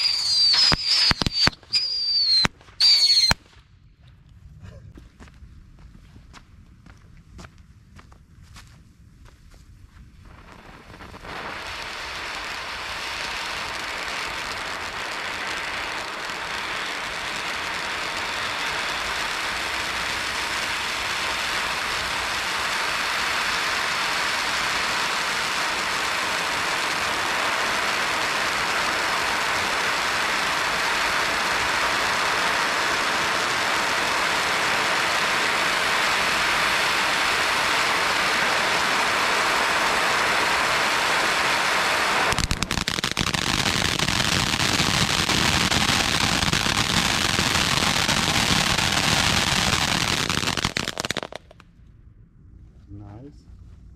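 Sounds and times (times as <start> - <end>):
firework spraying sparks hiss: 0.0 - 3.4, 10.3 - 51.6
firework crackling: 0.0 - 3.6, 10.0 - 51.7.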